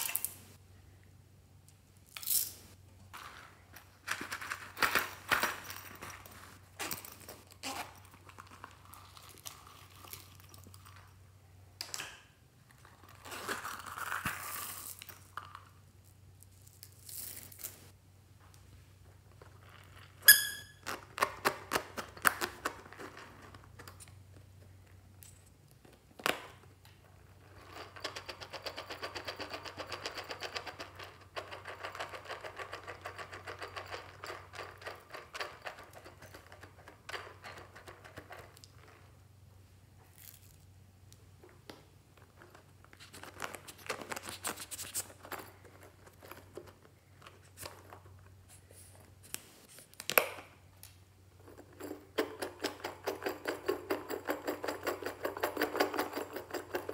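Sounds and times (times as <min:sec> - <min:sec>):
faint low hum: 0:00.0 - 0:52.1.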